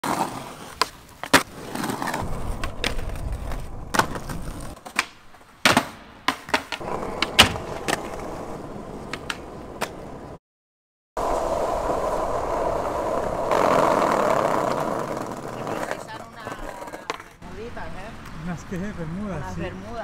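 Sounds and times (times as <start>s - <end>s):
skateboard wheels rolling on concrete: 0.0s - 10.4s, 11.2s - 20.0s
skateboard clacking: 0.1s - 10.2s, 11.3s - 17.4s.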